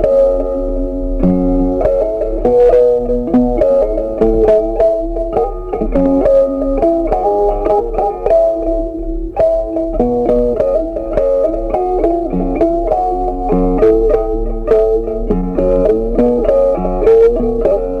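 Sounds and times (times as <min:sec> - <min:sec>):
plucked guitar melody with bass: 0:00.0 - 0:18.0.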